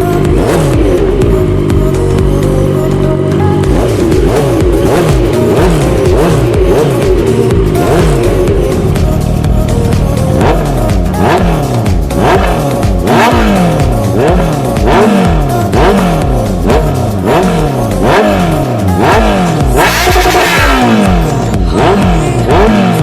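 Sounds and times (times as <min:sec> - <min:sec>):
electronic music: 0:00.0 - 0:23.0
motorcycle engine revving: 0:00.0 - 0:23.0.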